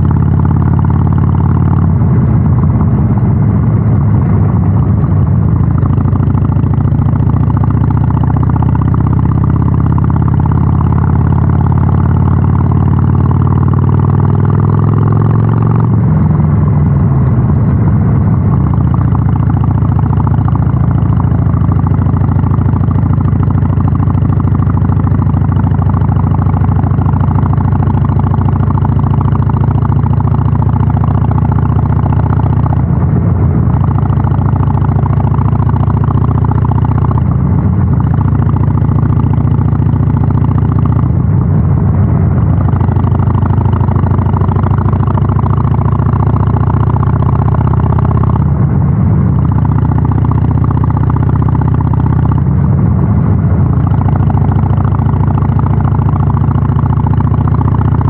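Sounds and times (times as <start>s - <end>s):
motorcycle exhaust running: 0.0s - 58.0s.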